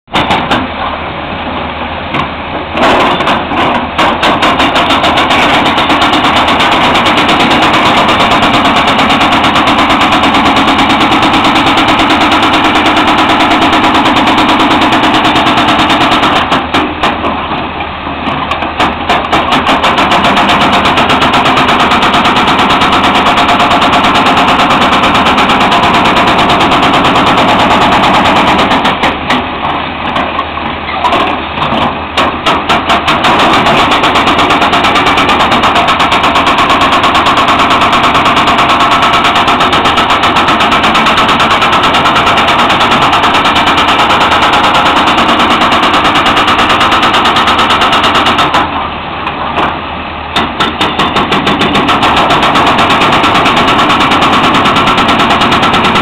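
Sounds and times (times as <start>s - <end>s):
excavator diesel engine running: 0.0s - 56.0s
hydraulic breaker hammering rock: 0.1s - 0.8s, 2.1s - 17.5s, 18.2s - 48.8s, 49.6s - 56.0s.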